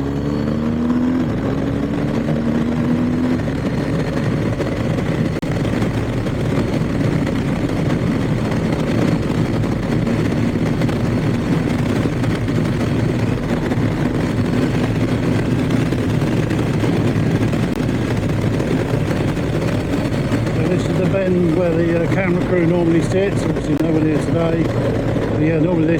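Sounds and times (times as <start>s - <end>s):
motorcycle engine running: 0.0s - 25.9s
wind and road noise: 0.0s - 25.9s.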